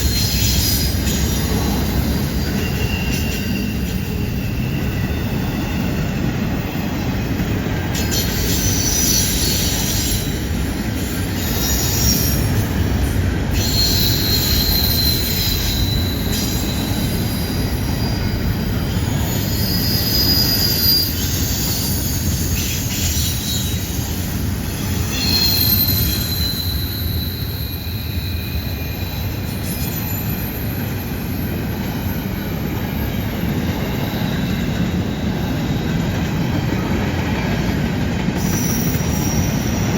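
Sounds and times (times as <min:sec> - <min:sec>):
freight train rumbling on rails: 0:00.0 - 0:39.9
steel wheels squealing on rail: 0:00.0 - 0:39.9.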